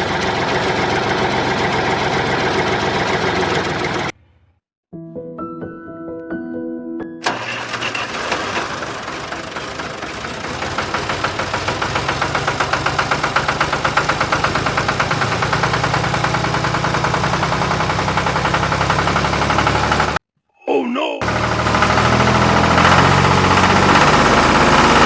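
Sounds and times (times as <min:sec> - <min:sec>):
engine chugging: 0:00.0 - 0:04.2, 0:07.2 - 0:20.2, 0:21.2 - 0:25.0.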